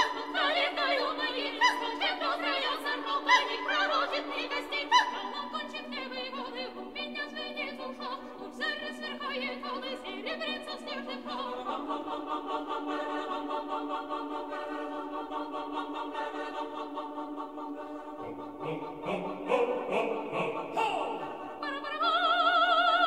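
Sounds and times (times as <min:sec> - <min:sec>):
mixed choir singing a cappella: 0:00.0 - 0:23.0.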